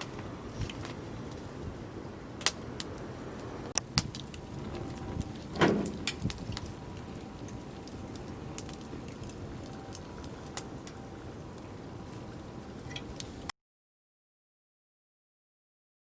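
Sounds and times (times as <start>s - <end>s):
low background rumble: 0.0s - 13.5s.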